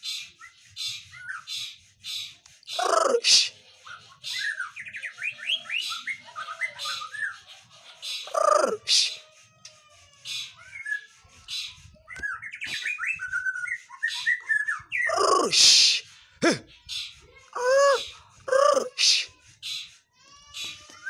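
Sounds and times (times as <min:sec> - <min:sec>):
harsh rasping bird calls: 0:00.0 - 0:11.8, 0:12.4 - 0:21.0
songbird chirping: 0:00.9 - 0:19.3.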